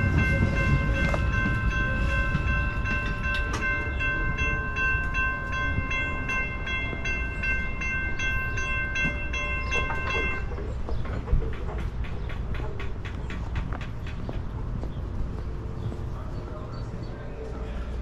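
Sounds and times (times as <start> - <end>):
train low rumble: 0.0 - 18.0.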